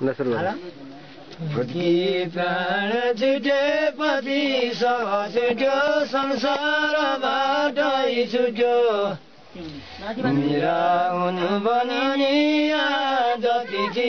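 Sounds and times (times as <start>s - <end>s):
old men chanting: 1.4s - 9.3s, 10.0s - 14.0s.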